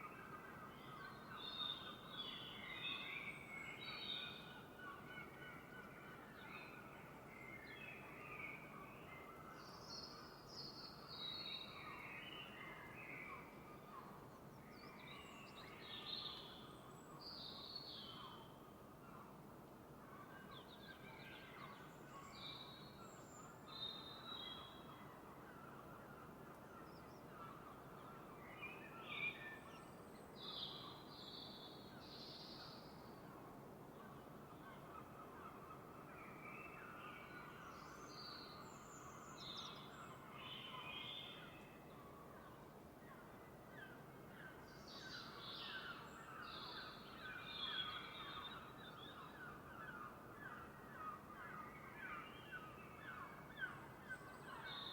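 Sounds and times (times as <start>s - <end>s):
faint steady hiss: 0.0s - 54.9s.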